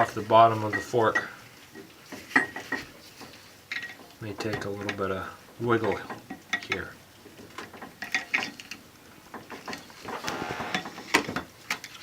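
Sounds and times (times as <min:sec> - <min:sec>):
metal clicking and scraping: 0:00.0 - 0:12.0.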